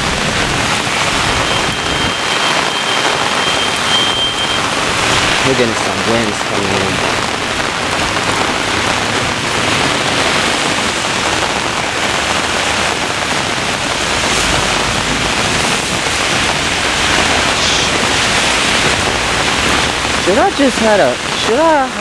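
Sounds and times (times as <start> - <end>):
heavy rain pouring: 0.0 - 22.0
wind gusting: 0.0 - 22.0.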